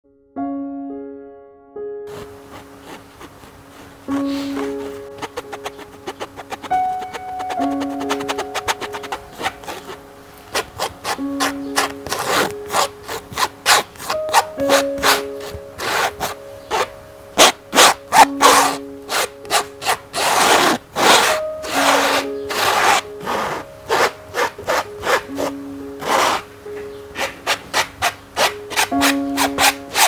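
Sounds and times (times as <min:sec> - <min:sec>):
palette knife scraping paint on canvas: 0:02.1 - 0:26.5, 0:27.2 - 0:30.0.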